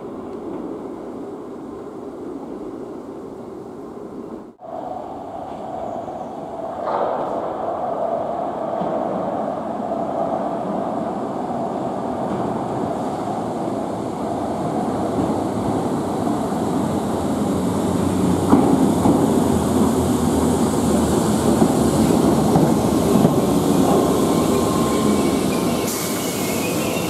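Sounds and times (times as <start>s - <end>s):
train rumble approaching: 0.0s - 27.0s.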